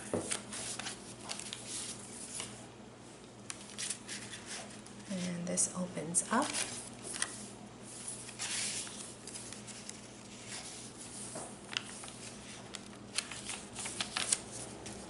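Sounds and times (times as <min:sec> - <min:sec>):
paper rustling: 0:00.1 - 0:02.6, 0:03.5 - 0:05.3, 0:06.4 - 0:15.0.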